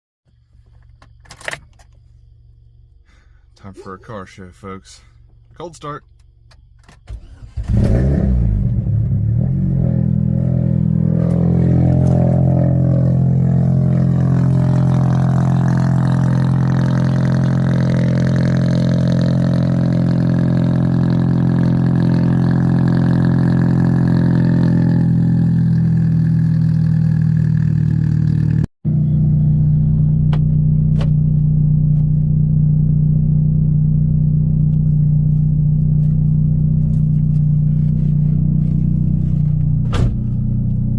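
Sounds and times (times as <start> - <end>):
car engine cranking and idling: 0.5 - 40.9.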